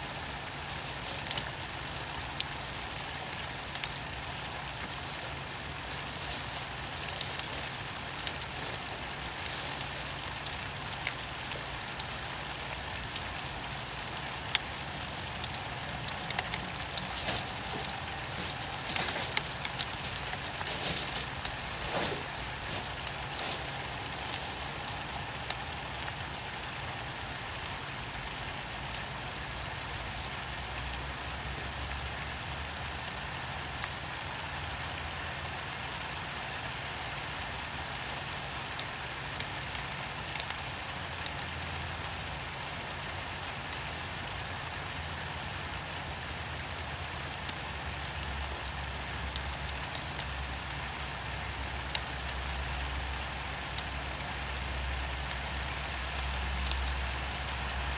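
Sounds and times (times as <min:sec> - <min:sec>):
steady rainfall: 0:00.0 - 0:57.9
drip ticks: 0:00.2 - 0:33.0, 0:37.8 - 0:57.9.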